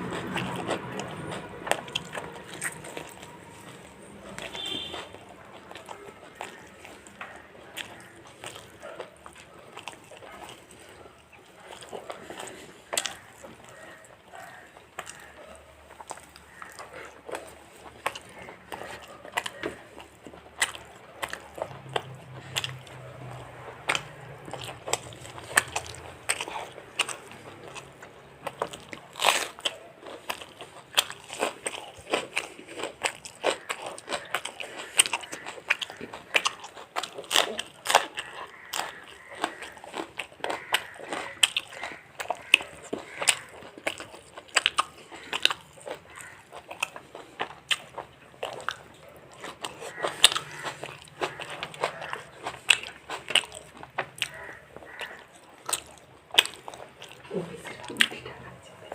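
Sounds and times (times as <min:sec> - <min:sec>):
chewing crunchy fried chicken: 0:00.0 - 0:58.9.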